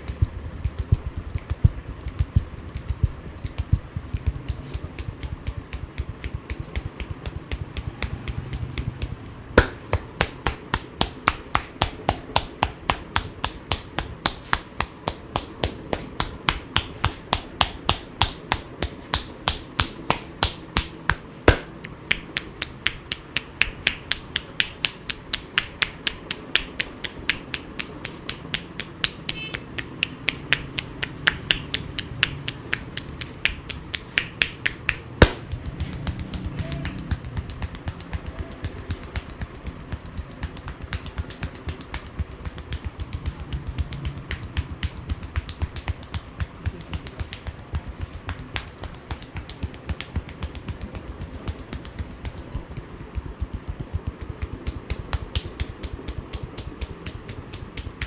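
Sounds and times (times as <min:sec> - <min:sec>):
hands slapping body rhythmically: 0:00.0 - 0:58.0.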